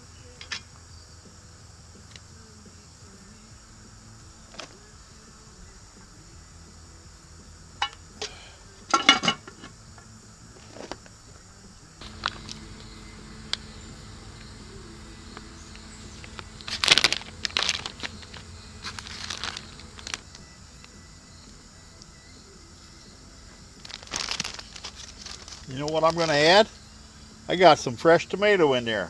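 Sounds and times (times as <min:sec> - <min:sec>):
faint steady buzz: 0:00.0 - 0:29.0.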